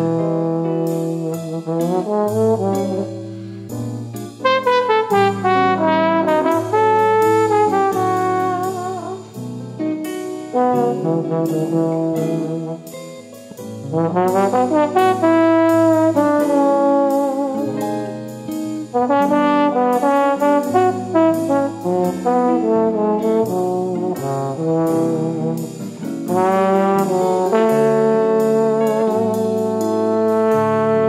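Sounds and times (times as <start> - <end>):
instrumental music with brass: 0.0 - 31.0.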